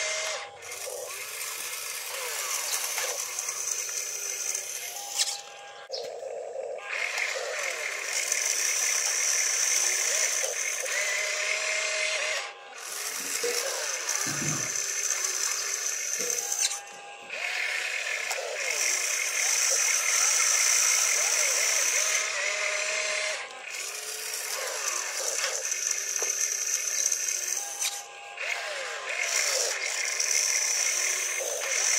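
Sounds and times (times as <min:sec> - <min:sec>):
small electric motors whining: 0:00.0 - 0:31.9.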